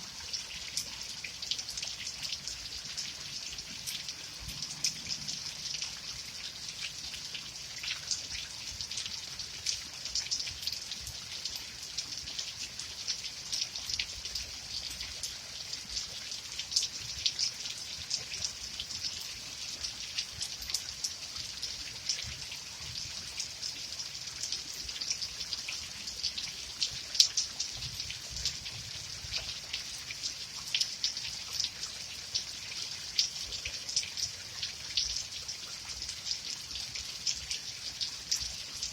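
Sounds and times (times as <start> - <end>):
raindrops pattering on a surface: 0.0 - 38.9
steady rain hiss: 0.0 - 38.9.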